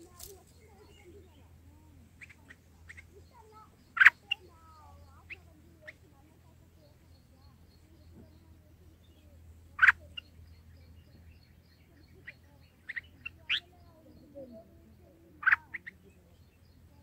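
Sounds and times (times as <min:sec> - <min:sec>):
faint low hum: 0:00.0 - 0:17.0
bird chirps: 0:00.1 - 0:17.0.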